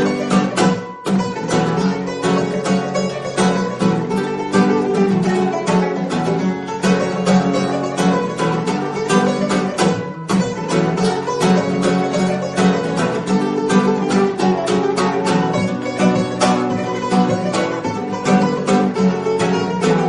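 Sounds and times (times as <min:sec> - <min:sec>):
plucked guitar-like music: 0:00.0 - 0:20.0.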